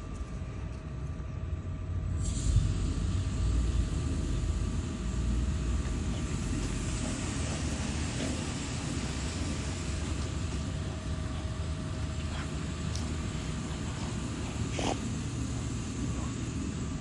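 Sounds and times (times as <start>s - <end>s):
constant machine hum: 0.0s - 17.0s
machine rumble: 0.0s - 17.0s
hiss: 2.1s - 17.0s.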